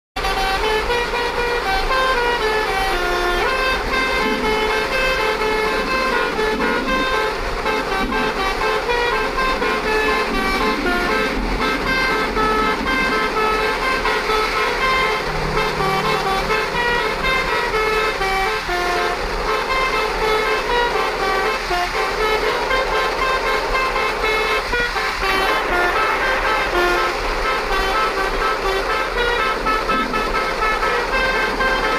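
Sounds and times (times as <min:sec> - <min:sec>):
multi-trumpet air horn melody: 0:00.2 - 0:31.9.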